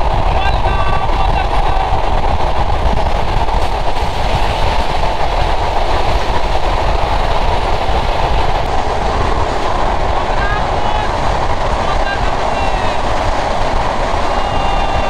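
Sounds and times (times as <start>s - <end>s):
train wheels rumbling: 0.0s - 15.0s
wind buffeting microphone: 0.0s - 15.0s.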